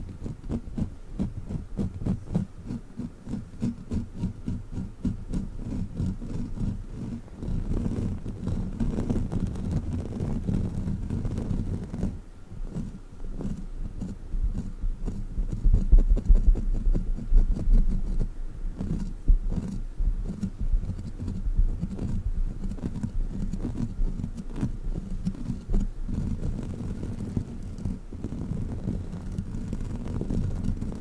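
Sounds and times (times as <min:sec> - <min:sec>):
sticky ticks and crackles: 0:00.1 - 0:31.0.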